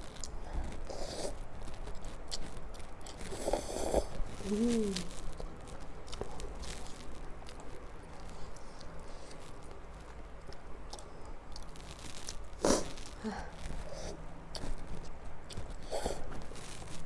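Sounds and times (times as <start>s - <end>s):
person chewing noodles: 0.0s - 17.0s.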